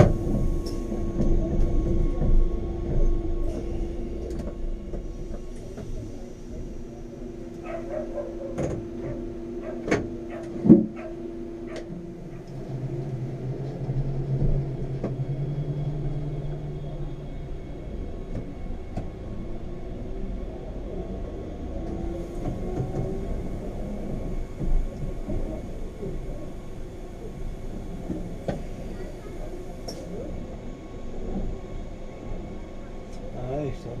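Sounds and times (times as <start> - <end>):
lower hum: 0.0 - 31.6
train running hum: 0.0 - 34.0.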